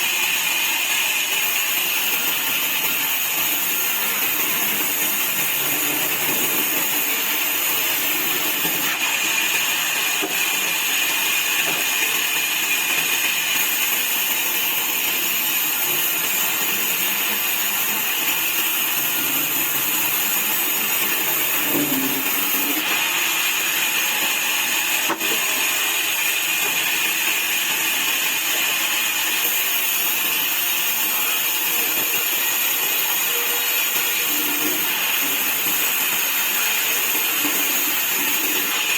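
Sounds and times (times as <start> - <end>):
saw cutting wood: 0.0 - 38.9.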